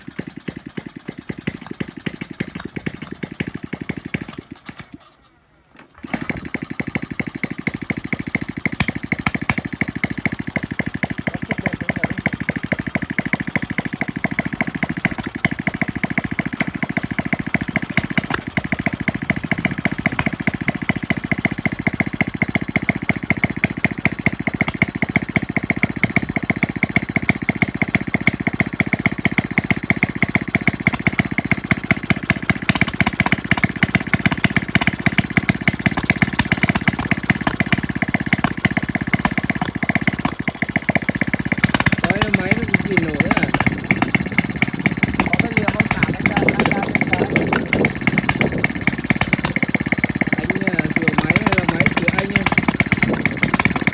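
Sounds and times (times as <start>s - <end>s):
small winch engine running: 0.0s - 53.9s.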